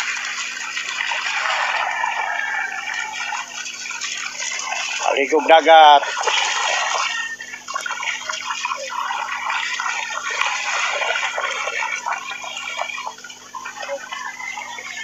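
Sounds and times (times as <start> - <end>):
dogs splashing in shallow water: 0.0 - 15.0.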